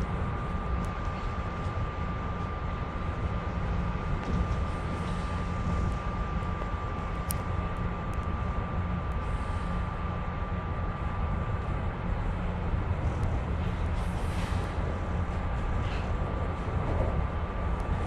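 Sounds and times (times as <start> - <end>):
train car rumble: 0.0 - 18.0.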